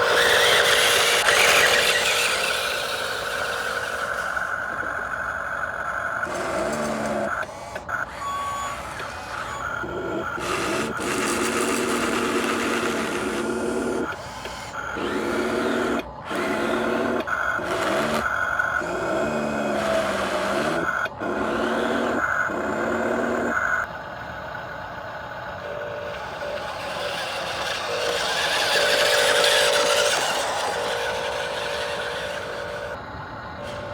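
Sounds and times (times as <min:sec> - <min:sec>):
small electric motors whining: 0:00.0 - 0:33.9.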